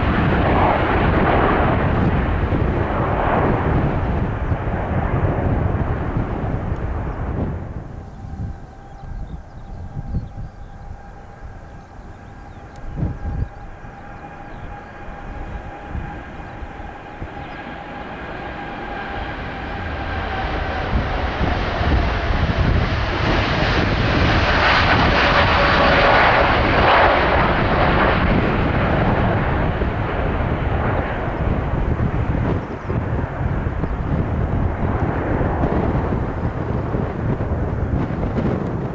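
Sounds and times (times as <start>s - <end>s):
jet engine whine: 0.0s - 38.9s
jet rumbling roar: 0.0s - 38.9s.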